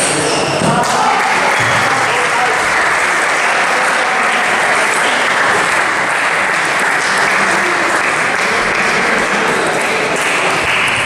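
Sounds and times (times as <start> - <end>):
indoor hall rushing noise: 0.0 - 11.0.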